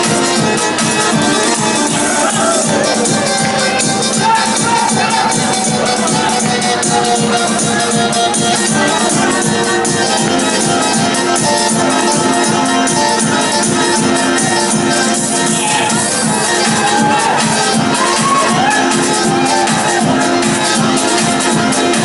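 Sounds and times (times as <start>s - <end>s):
instrumental dance music: 0.0s - 22.0s.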